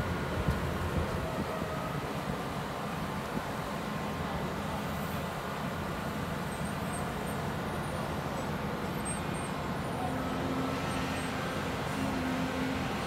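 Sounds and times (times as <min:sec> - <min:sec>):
diesel engine and hydraulics running: 0:00.0 - 0:13.0.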